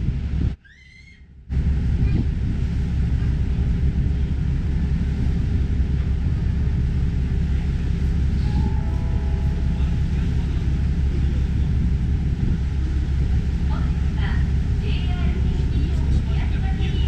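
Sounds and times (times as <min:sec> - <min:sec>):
ferry engine rumble: 0:00.0 - 0:17.0.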